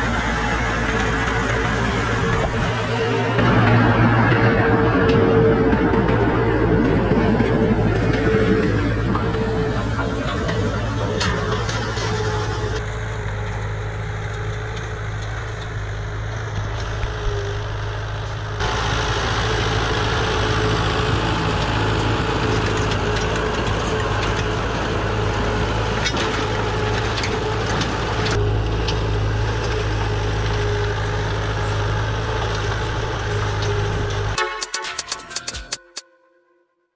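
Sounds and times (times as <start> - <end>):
tractor diesel engine under load: 0.0 - 34.4.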